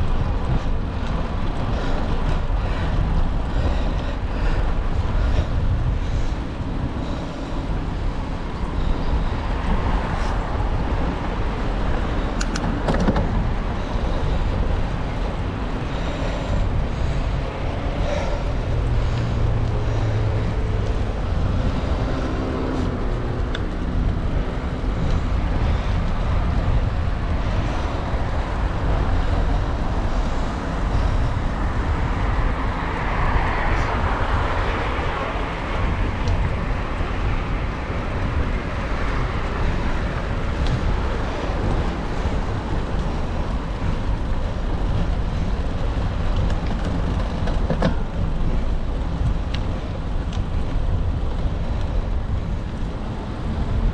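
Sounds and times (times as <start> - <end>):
city road traffic: 0.0 - 53.9
wind rumbling on microphone: 0.0 - 53.9.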